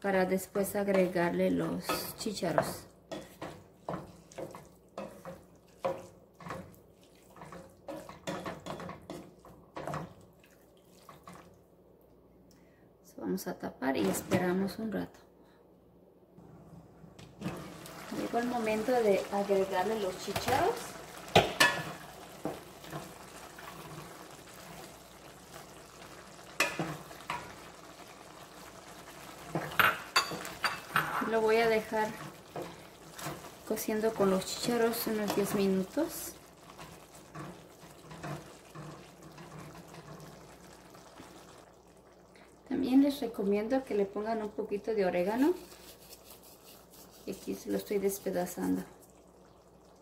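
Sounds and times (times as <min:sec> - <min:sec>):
spatula stirring saucy mixture: 0:00.6 - 0:11.6, 0:17.4 - 0:42.7, 0:45.2 - 0:50.0.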